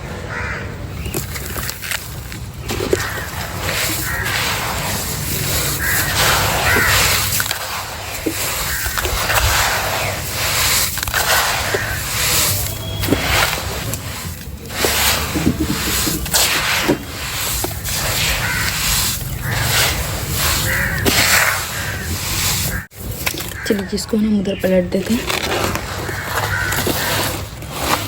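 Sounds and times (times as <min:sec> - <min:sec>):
wet cement mix swishing: 0:01.0 - 0:23.9, 0:25.0 - 0:28.0.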